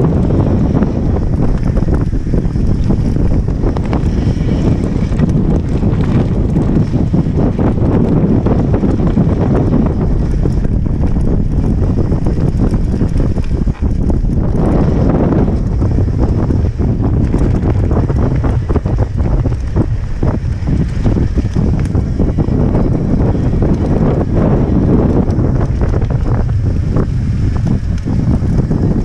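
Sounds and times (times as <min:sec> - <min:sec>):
bike rattling over ground: 0:00.0 - 0:29.0
wind buffeting microphone: 0:00.0 - 0:29.0.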